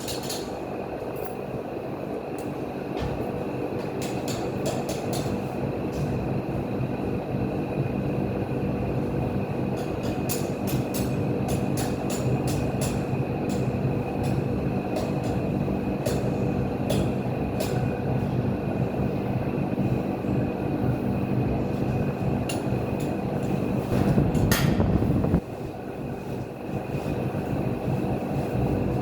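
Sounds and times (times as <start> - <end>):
mechanical rumble with hum: 0.0 - 29.0.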